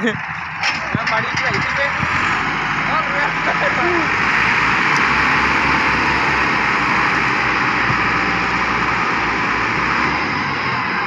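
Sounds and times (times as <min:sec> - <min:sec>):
tractor engine running hard: 0:00.0 - 0:11.0.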